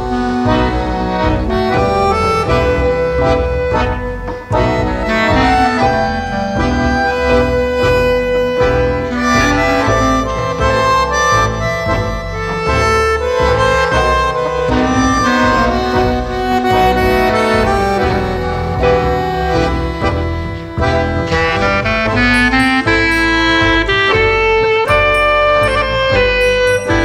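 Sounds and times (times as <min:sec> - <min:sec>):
steady low bass line: 0:00.0 - 0:27.0
tango band with accordion: 0:00.0 - 0:27.0.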